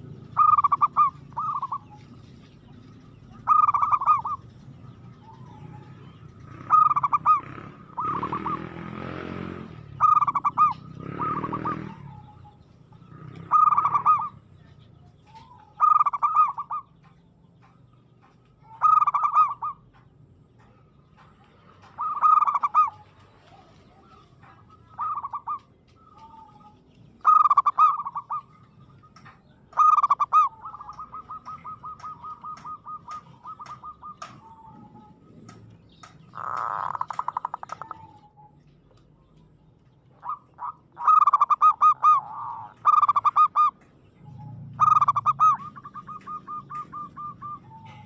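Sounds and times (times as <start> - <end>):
dove cooing trilled song: 0.0 - 48.0.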